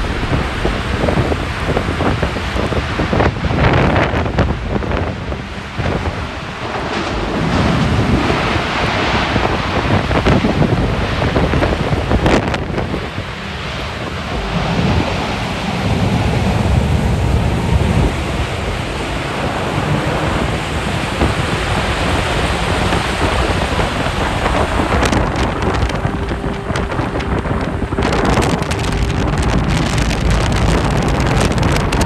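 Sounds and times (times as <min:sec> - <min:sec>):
tornado wind rushing: 0:00.0 - 0:32.0
wind buffeting microphone: 0:00.0 - 0:32.0.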